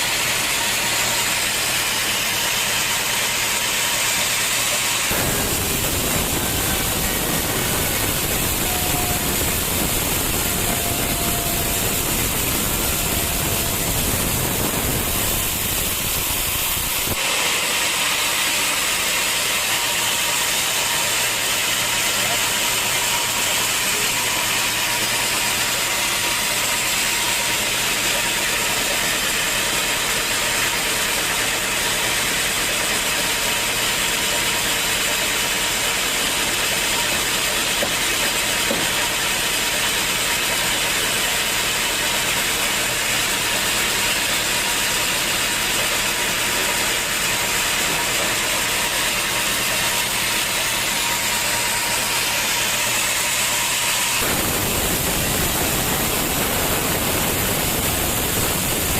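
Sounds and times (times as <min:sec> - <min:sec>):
sawmill machinery whining: 0:00.0 - 0:58.9.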